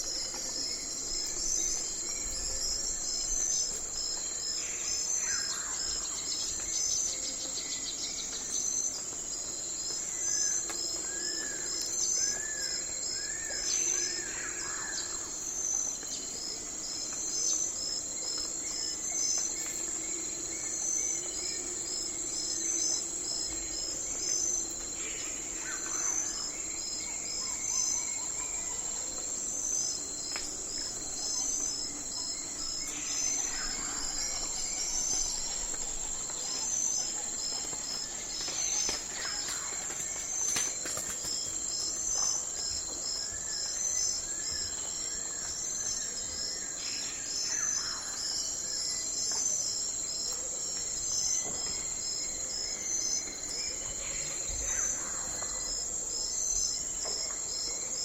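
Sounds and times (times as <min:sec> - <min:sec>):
cricket chirps: 0:00.0 - 0:58.0.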